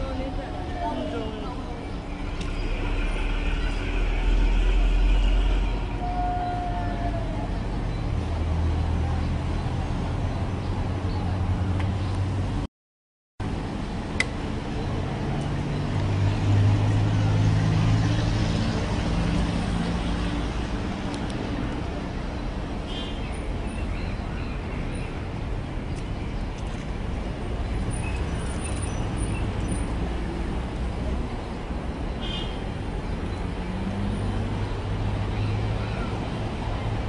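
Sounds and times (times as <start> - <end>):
hum of road traffic: 0.0 - 12.7, 13.4 - 37.0.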